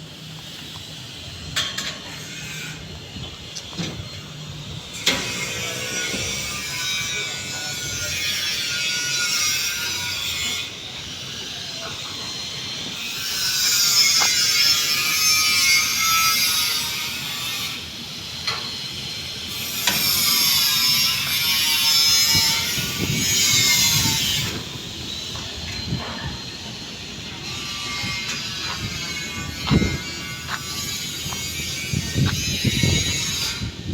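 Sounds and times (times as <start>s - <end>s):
saw cutting wood: 4.9s - 33.8s.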